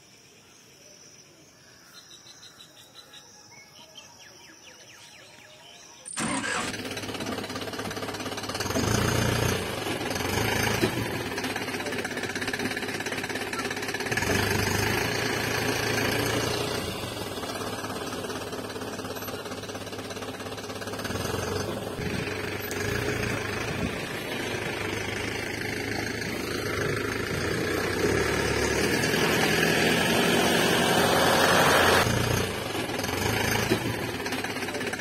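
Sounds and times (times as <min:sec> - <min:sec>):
truck engine rattling: 0:06.1 - 0:35.0.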